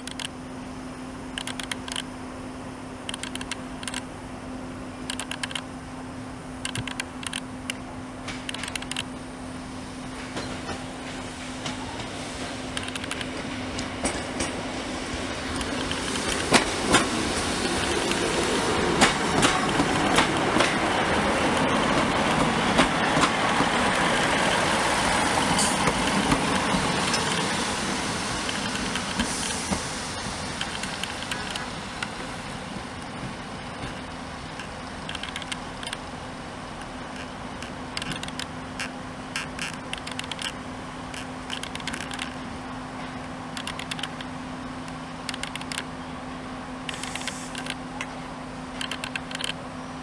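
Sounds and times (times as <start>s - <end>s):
train wheels clicking over rail joints: 0.0s - 0.4s, 1.3s - 2.1s, 3.1s - 4.1s, 5.0s - 5.7s, 6.6s - 9.2s, 10.0s - 36.1s, 36.7s - 45.9s, 46.8s - 49.6s
diesel train engine: 0.0s - 50.0s.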